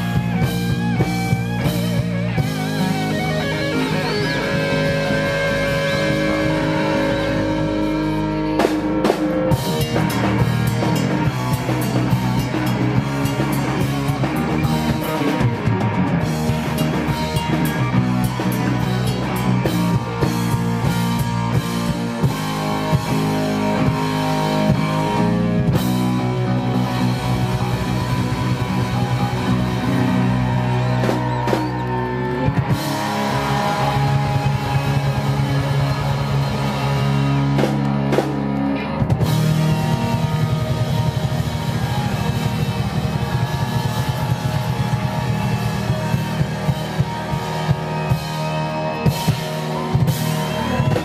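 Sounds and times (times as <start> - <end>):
drum kit: 0.0 - 51.0
electric guitars: 0.0 - 51.0.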